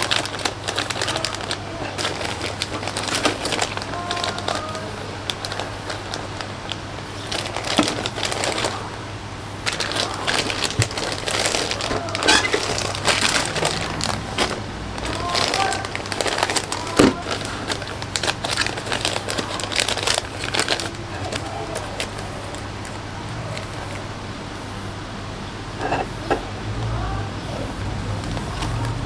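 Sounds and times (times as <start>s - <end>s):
plastic bags crinkling: 0.0s - 24.1s.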